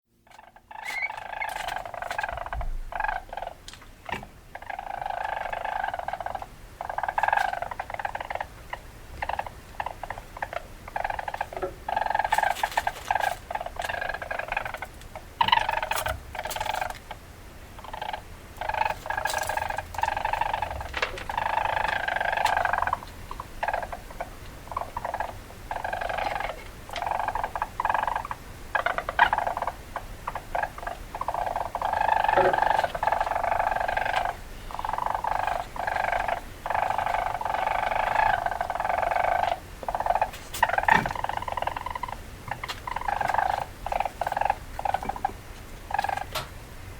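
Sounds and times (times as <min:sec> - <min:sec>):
weasel chattering: 0:00.2 - 0:17.2, 0:17.8 - 0:46.4.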